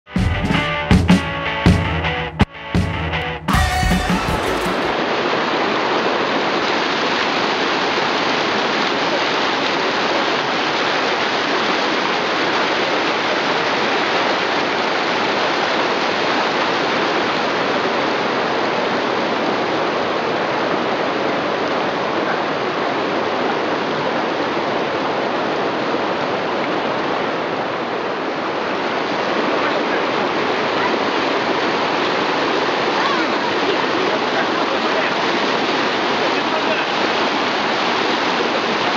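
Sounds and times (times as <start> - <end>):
water rushing over boulders: 4.5 - 38.9.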